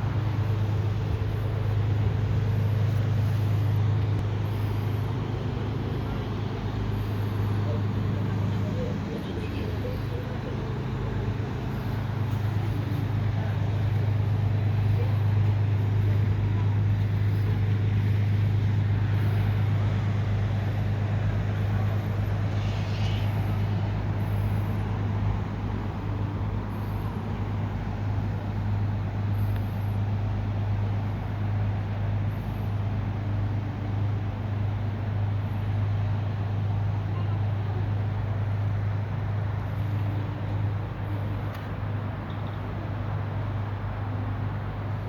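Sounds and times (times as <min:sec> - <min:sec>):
low engine drone: 0:00.0 - 0:45.0
outdoor background noise: 0:00.0 - 0:45.0.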